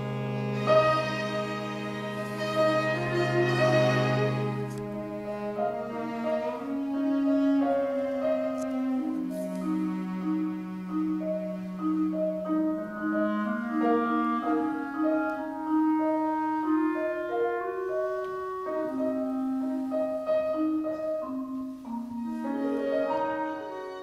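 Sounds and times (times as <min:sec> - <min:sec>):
clarinet: 0:00.0 - 0:24.0
piano: 0:00.0 - 0:24.0.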